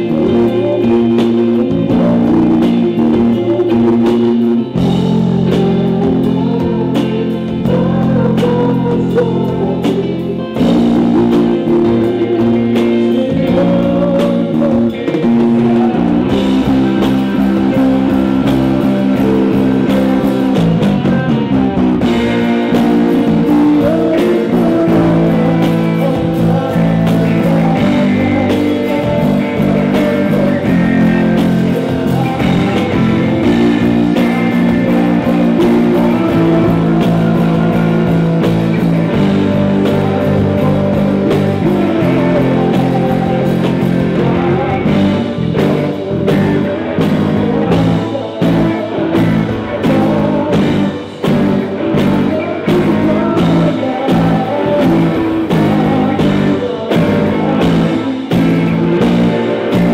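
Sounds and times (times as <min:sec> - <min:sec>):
bass guitar: 0:00.0 - 0:59.9
drums: 0:00.0 - 0:59.9
electric guitars: 0:00.0 - 0:59.9
keyboard: 0:00.0 - 0:59.9.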